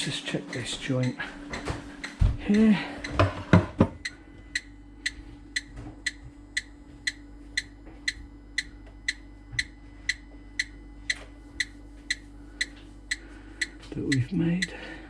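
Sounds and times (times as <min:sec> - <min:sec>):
gas detector ticking: 0:00.0 - 0:15.0.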